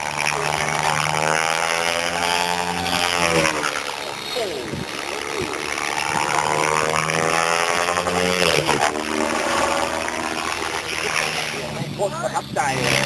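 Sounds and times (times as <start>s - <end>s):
rc helicopter motor and rotor whine: 0.0s - 13.0s.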